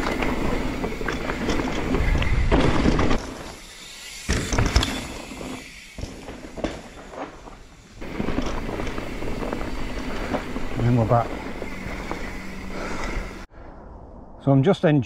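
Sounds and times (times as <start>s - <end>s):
bike tyres on loose dirt: 0.0s - 13.5s.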